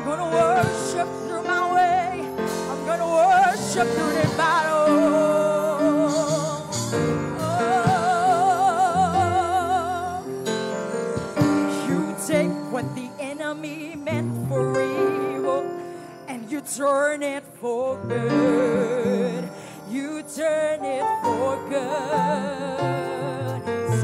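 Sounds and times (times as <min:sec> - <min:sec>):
women singing with vibrato: 0:00.0 - 0:10.5, 0:11.4 - 0:24.0
keyboard and electric guitar: 0:00.0 - 0:24.0.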